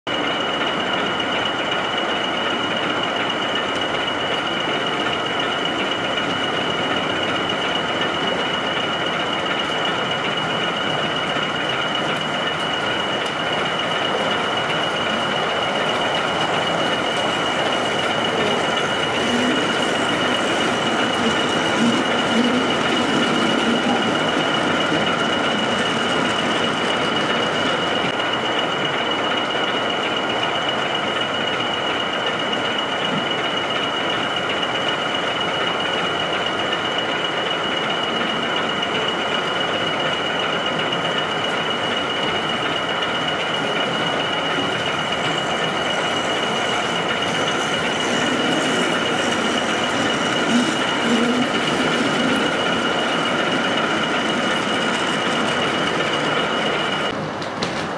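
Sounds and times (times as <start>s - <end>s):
model locomotive running on track: 0.1s - 57.9s.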